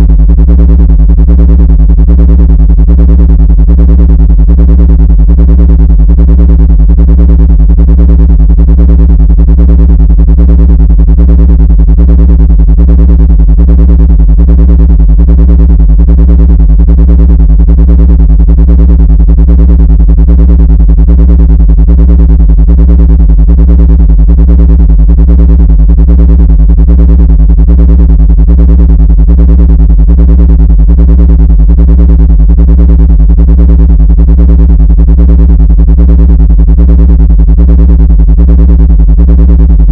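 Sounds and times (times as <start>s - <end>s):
synthesized pulsing buzzing drone: 0.0s - 39.9s.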